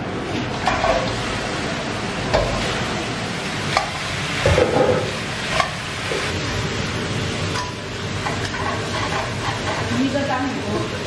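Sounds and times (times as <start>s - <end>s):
chicken sizzling in a wok: 0.0s - 11.0s.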